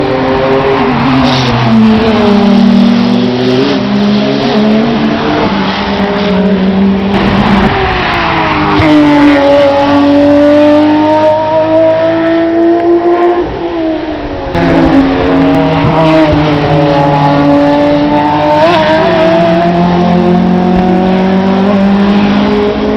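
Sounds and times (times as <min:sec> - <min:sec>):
race cars passing at speed: 0:00.0 - 0:22.9.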